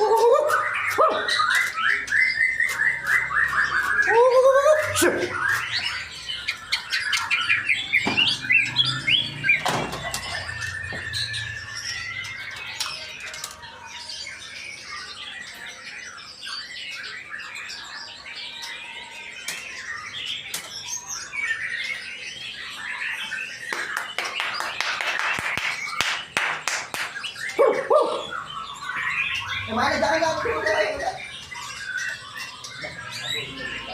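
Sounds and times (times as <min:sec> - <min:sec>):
bird singing whistles and trills: 0:00.0 - 0:33.9.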